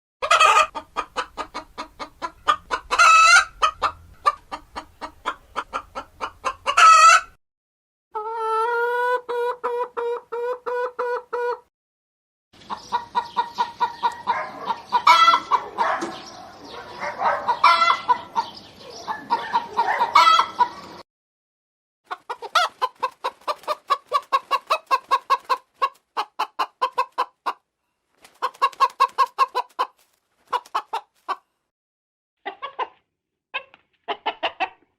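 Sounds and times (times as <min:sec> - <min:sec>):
hens clucking: 0:00.2 - 0:07.4, 0:08.2 - 0:11.7, 0:12.6 - 0:21.0, 0:22.1 - 0:31.4, 0:32.4 - 0:33.0, 0:33.6 - 0:34.9.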